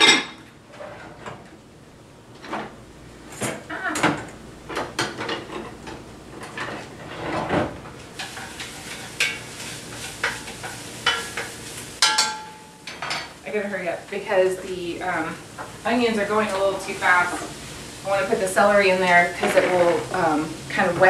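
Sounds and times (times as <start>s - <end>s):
onions sizzling: 2.7s - 21.0s.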